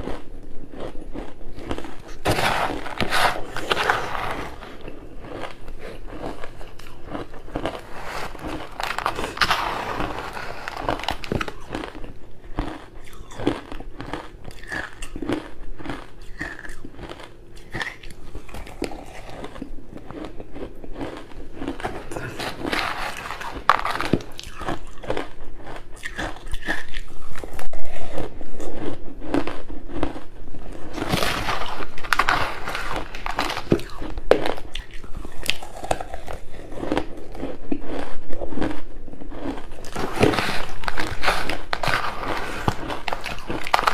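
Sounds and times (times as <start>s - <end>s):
chewing crunchy ice: 0.0s - 43.9s.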